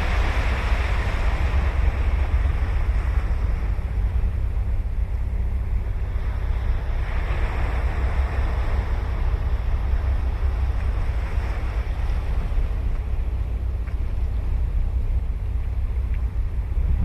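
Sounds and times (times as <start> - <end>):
ocean waves breaking: 0.0 - 17.0
wind rumbling on microphone: 0.0 - 17.0.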